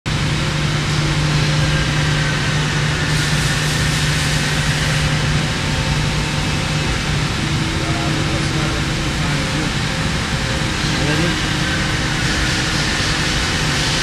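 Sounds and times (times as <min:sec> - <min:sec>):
lathe idling hum: 0:00.1 - 0:14.0.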